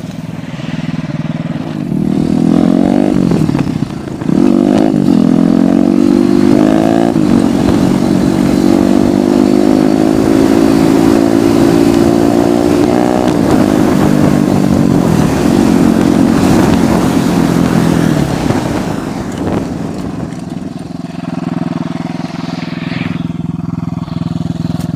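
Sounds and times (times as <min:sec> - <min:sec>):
motorcycle engine revving high: 0:00.0 - 0:24.9.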